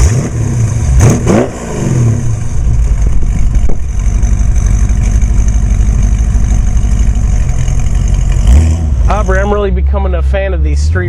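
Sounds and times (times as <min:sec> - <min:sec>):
vee eight engine revving and rumbling: 0:00.0 - 0:11.0.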